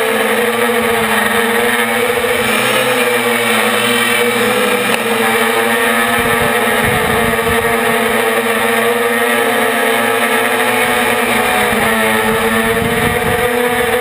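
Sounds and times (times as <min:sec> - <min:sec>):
quadcopter propeller whine: 0:00.0 - 0:14.0
wind buffeting microphone: 0:00.5 - 0:09.1, 0:10.4 - 0:14.0.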